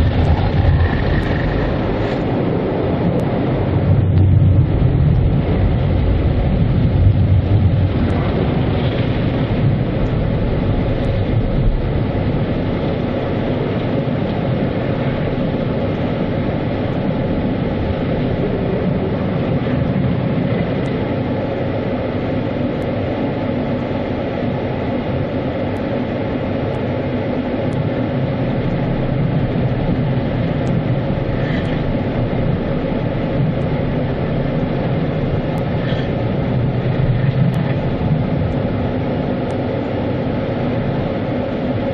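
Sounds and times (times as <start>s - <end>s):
automatic car wash running: 0.0s - 41.9s.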